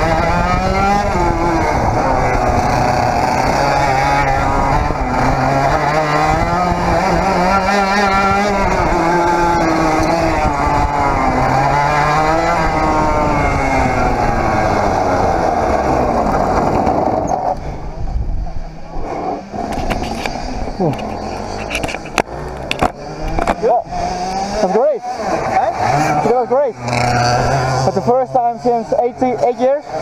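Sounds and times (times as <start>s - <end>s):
kart engine revving: 0.0s - 30.0s.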